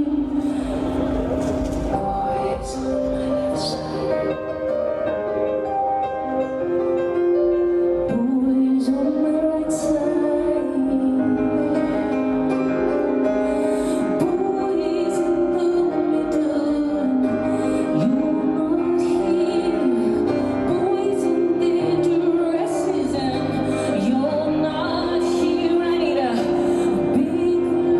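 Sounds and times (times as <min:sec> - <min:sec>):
music with held notes: 0:00.0 - 0:27.9.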